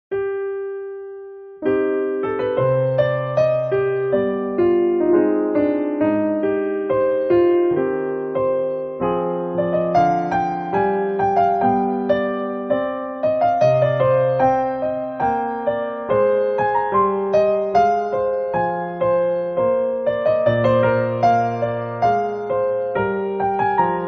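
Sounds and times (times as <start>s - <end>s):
piano melody with chords: 0.1s - 24.0s.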